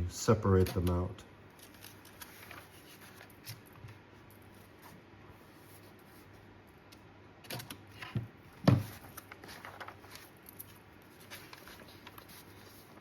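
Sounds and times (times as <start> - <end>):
paper rustling: 0.5 - 6.4, 7.5 - 13.0.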